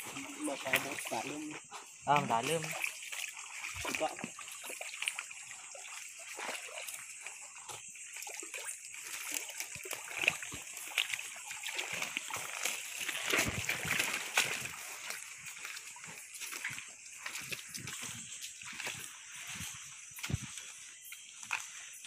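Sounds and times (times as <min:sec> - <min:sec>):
footsteps wading through stream: 0:00.0 - 0:22.0
water splashing and sloshing: 0:00.0 - 0:22.0.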